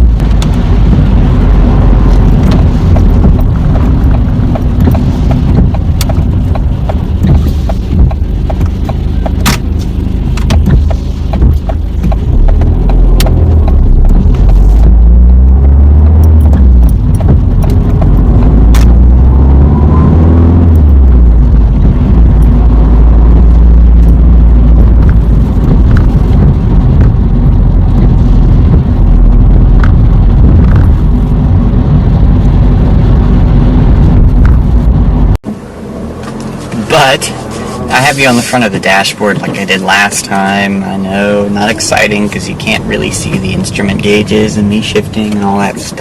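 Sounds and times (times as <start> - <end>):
car engine rumble: 0.0 - 46.0
road noise: 0.0 - 46.0.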